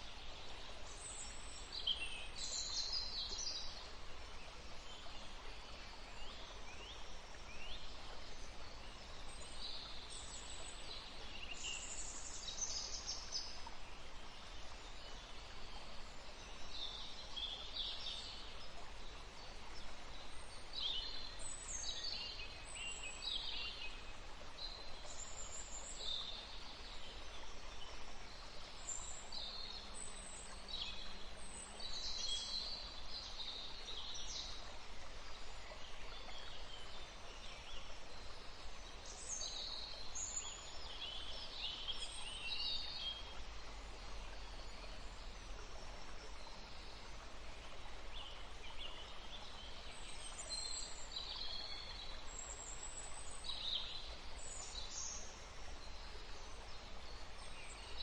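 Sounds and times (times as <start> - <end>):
outdoor background hiss: 0.0 - 58.0
songbirds chirping: 0.0 - 58.0.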